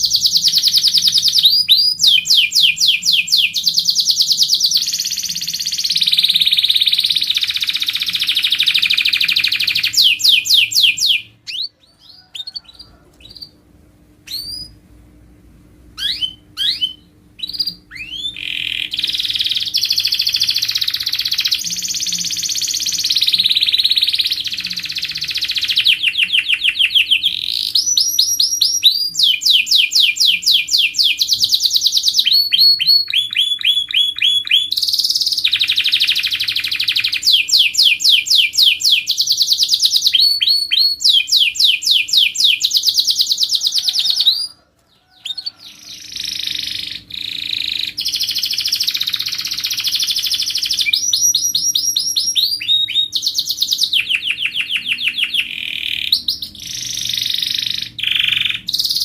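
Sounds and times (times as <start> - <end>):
canary singing trills: 0.0 - 13.6, 14.2 - 14.8, 15.9 - 59.0.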